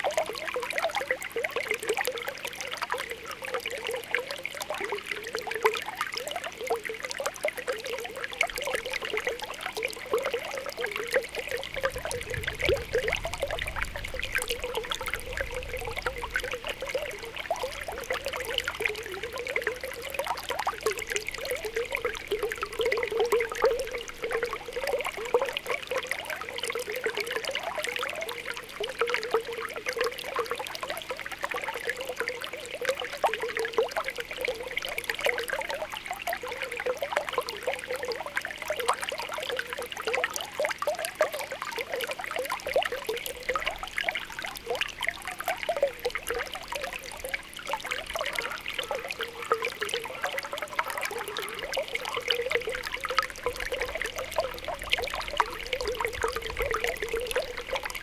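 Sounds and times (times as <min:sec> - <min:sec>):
spring water bubbling: 0:00.0 - 0:58.0.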